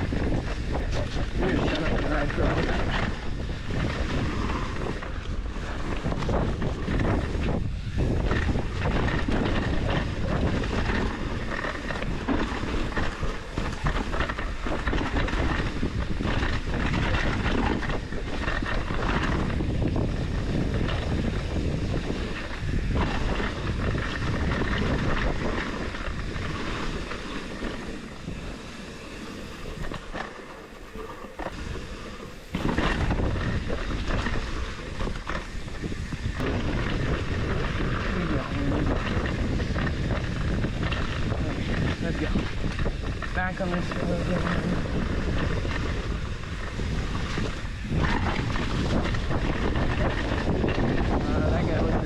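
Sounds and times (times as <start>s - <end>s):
bike tyres clattering over ground: 0.0s - 52.0s
wind rushing over microphone: 0.0s - 52.0s.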